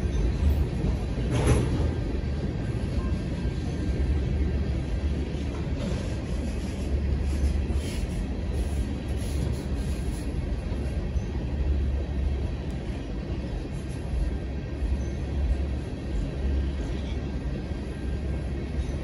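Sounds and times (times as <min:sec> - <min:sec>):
wheels rumbling on rail: 0:00.0 - 0:19.0.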